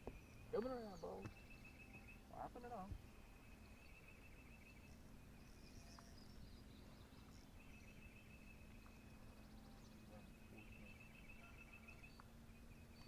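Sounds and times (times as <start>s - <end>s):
faint high chirps: 0.0s - 13.0s.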